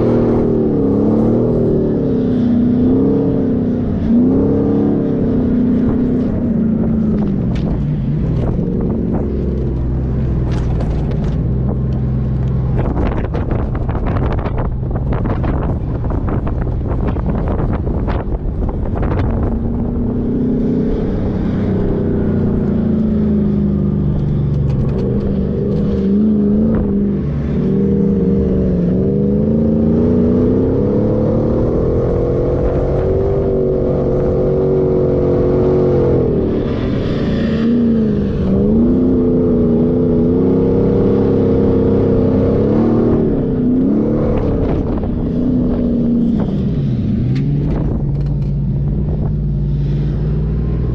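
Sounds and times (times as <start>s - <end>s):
off-road engine revving: 0.0s - 50.9s.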